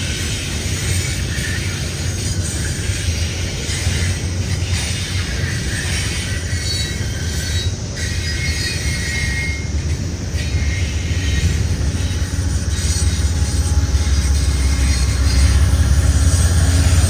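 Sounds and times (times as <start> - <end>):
high wheel squeals: 0.0 - 17.0
train wheels rumbling on rails: 0.0 - 17.0.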